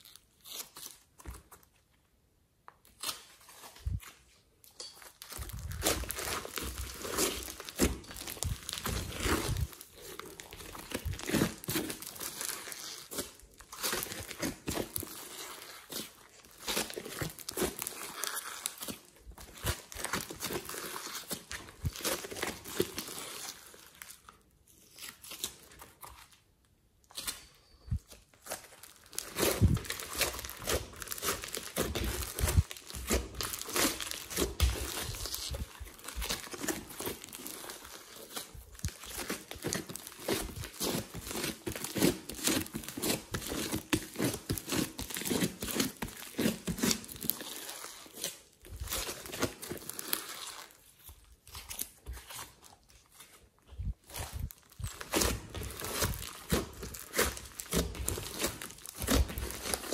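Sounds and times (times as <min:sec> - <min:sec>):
slime being kneaded by hand: 0:05.0 - 0:59.9.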